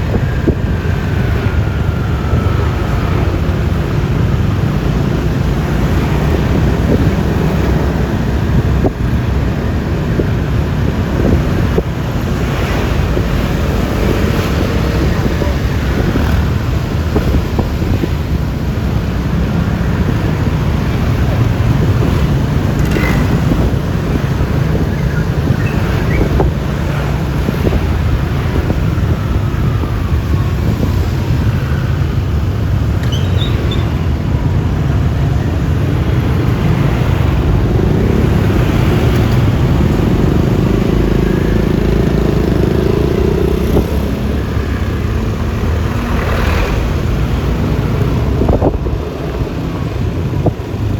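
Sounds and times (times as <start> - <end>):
scooter engine and tyres rumbling: 0.0 - 50.9
traffic: 0.0 - 50.9
wind rushing over microphone: 0.0 - 50.9.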